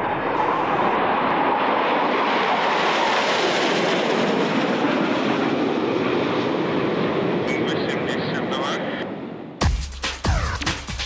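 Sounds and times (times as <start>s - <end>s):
jet engine roar of fighters: 0.0s - 9.6s.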